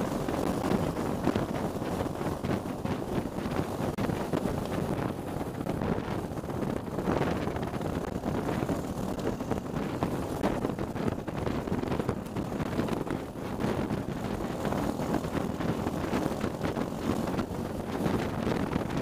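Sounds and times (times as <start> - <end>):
kart engine running: 0.0 - 19.0
wind buffeting microphone: 0.0 - 19.0.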